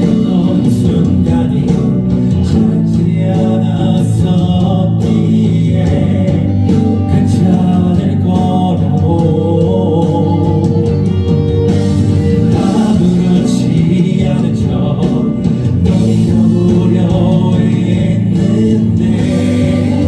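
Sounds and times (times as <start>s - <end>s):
band playing a song: 0.0s - 20.0s
guitar: 0.0s - 20.0s.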